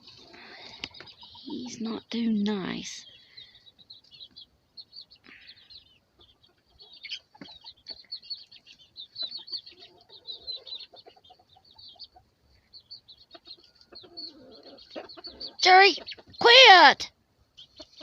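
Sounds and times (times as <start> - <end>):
chicken clucking: 0.0 - 1.9, 3.7 - 16.5, 17.5 - 18.0
baby chicks peeping: 0.0 - 18.0.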